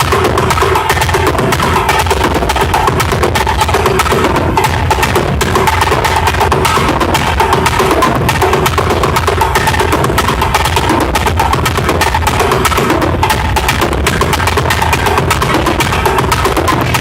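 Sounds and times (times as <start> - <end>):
loud music with fast percussion: 0.0 - 17.0.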